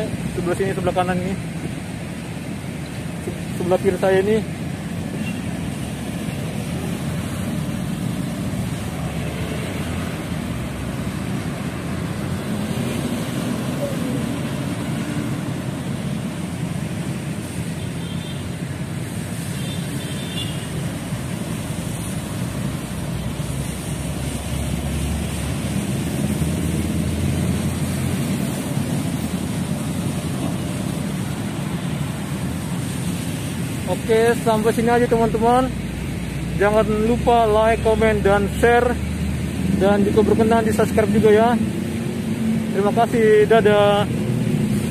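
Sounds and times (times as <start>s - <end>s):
road traffic engine rumble: 0.0s - 44.9s.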